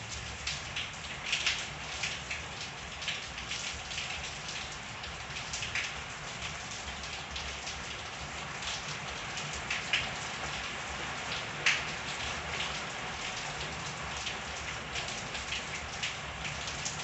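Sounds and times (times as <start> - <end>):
raindrops striking surfaces: 0.0 - 17.0
steady rain: 0.0 - 17.0.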